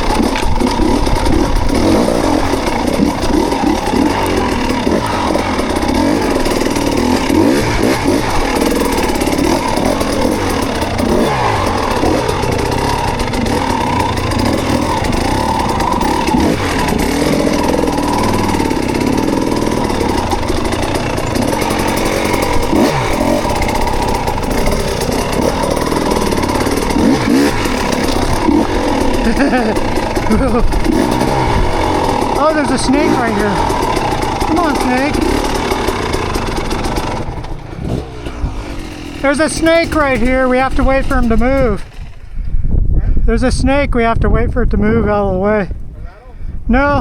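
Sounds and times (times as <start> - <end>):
motorcycle engine revving: 0.0 - 42.7.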